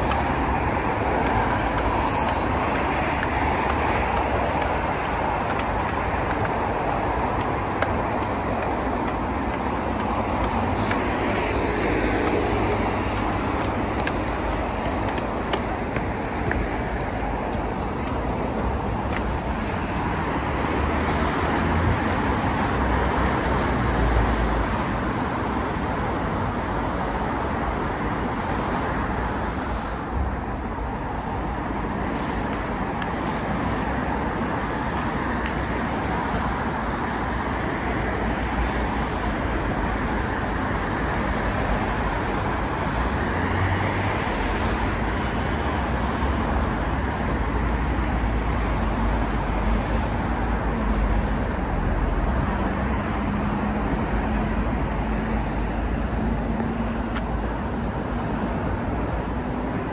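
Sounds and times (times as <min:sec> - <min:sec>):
cars passing on busy road: 0:00.0 - 0:59.9
low traffic rumble: 0:00.0 - 0:59.9.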